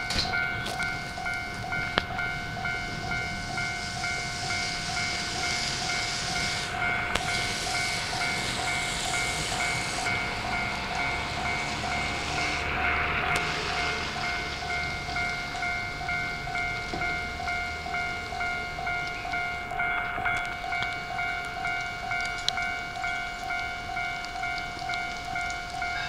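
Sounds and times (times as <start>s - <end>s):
level-crossing warning bell ringing: 0.0s - 26.0s
train and rail noise hiss: 0.0s - 26.0s.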